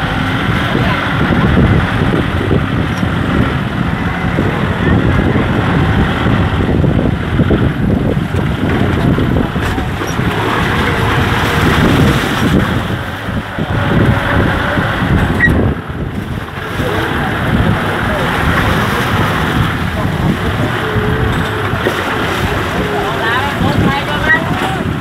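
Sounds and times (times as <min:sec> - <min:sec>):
tractor diesel engine running: 0:00.0 - 0:25.0
wind noise on microphone: 0:00.0 - 0:25.0.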